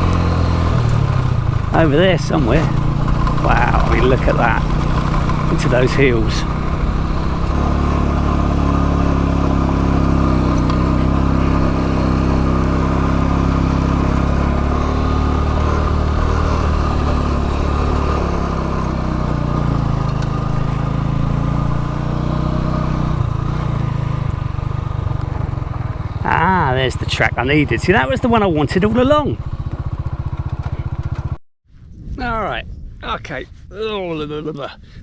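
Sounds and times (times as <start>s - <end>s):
motorcycle engine running: 0.0s - 31.4s.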